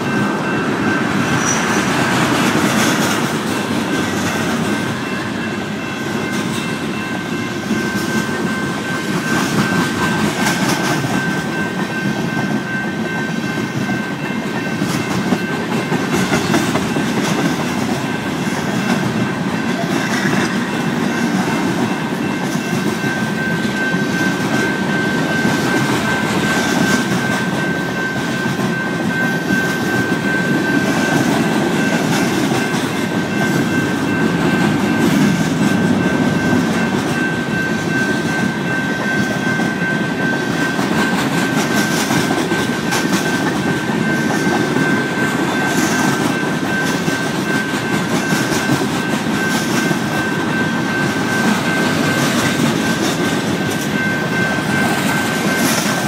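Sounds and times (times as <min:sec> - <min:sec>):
crossing bell ringing: 0:00.0 - 0:56.0
train wheels clattering over rails: 0:00.0 - 0:56.0.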